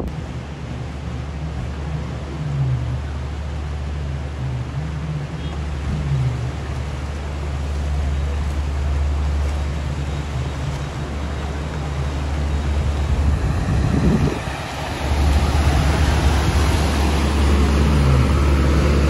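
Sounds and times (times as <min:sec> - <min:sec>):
truck engine running: 0:00.0 - 0:19.0
water rushing and splashing: 0:00.0 - 0:19.0.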